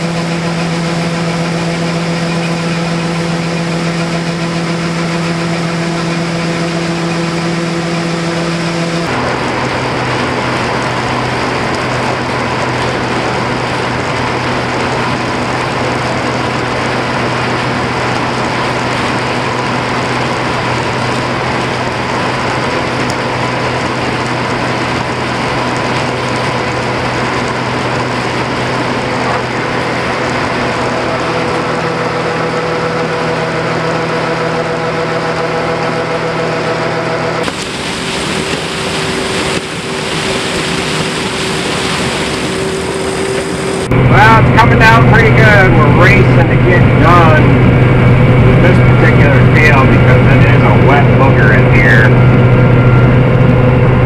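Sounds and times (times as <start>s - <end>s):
combine harvester machine drone: 0.0s - 54.0s.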